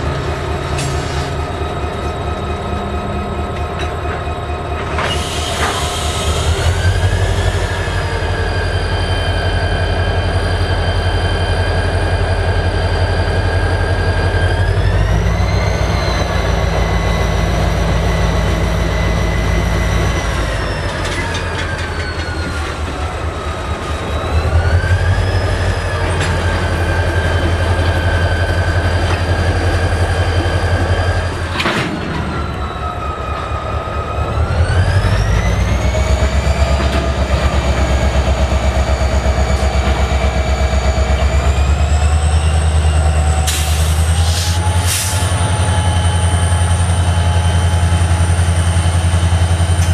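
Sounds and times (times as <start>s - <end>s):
diesel engine pulsing rumble: 0.0s - 49.9s.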